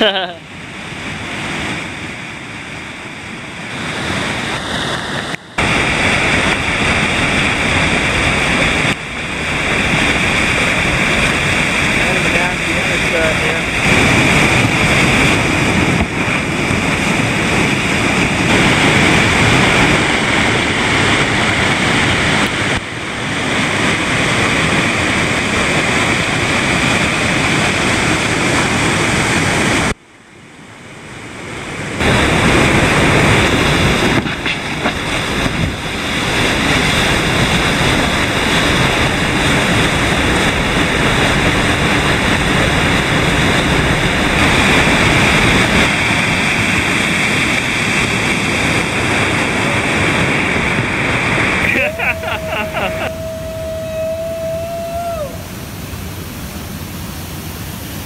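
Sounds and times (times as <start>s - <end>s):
waterfall rushing: 0.0s - 29.9s, 31.6s - 58.0s.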